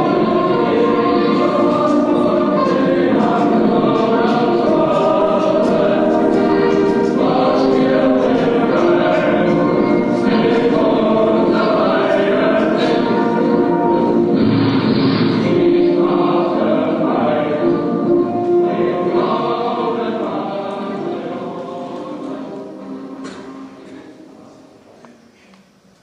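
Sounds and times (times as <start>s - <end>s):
choir singing held chords: 0.0s - 24.9s.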